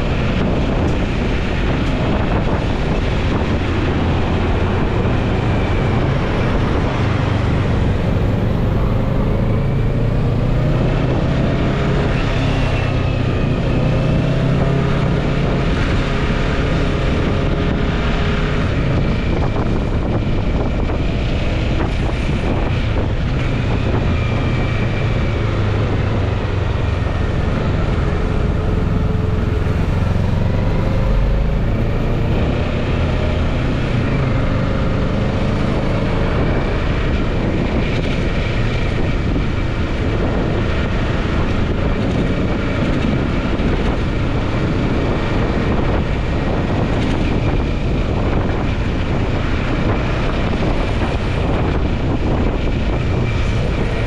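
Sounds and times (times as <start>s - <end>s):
surrounding traffic: 0.0s - 54.0s
wind rumble: 0.0s - 54.0s.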